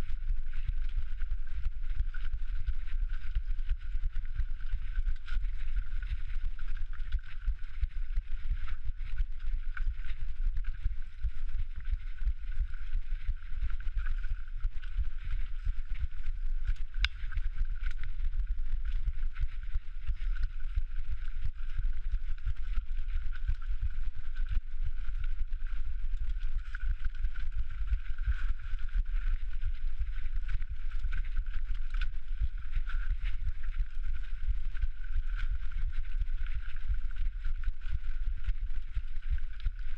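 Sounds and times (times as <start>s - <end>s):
low microphone rumble: 0.0s - 39.9s.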